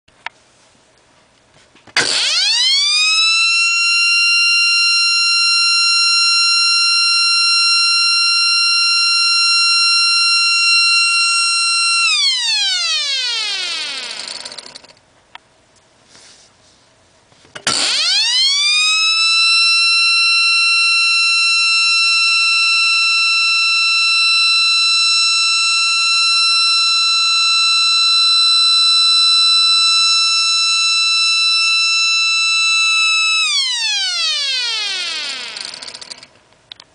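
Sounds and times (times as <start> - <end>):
alarm siren wail: 2.0 - 14.9, 17.7 - 36.3.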